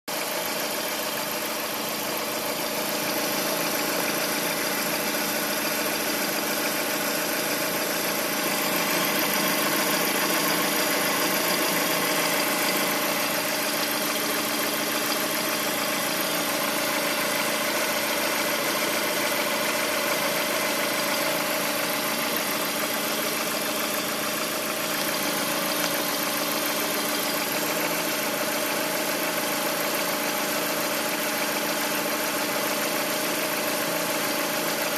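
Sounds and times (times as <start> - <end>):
car engine idling: 0.1 - 34.9
engine knock: 0.1 - 34.9.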